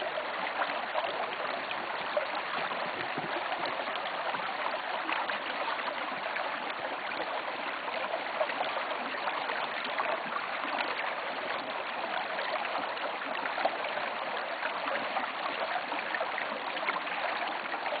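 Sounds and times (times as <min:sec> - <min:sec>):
stream babbling over rocks: 0:00.0 - 0:18.0.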